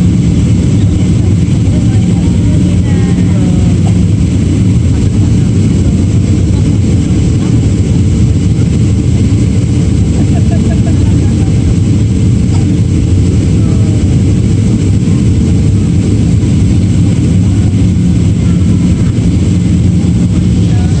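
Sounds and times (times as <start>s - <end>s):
airliner cabin engine roar: 0.0s - 21.0s.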